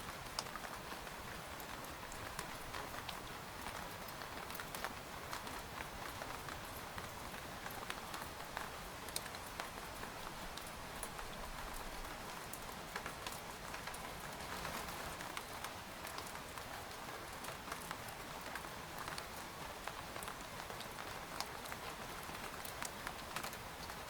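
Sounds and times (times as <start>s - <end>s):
rain pattering on tent fabric: 0.0s - 24.0s.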